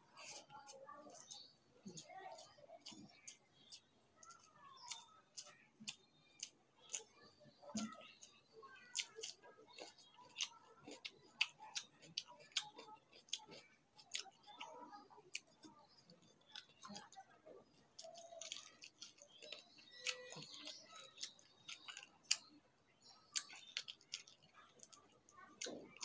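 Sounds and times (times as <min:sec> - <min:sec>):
mouth chewing wet smacks: 0:00.2 - 0:17.2, 0:17.8 - 0:26.0.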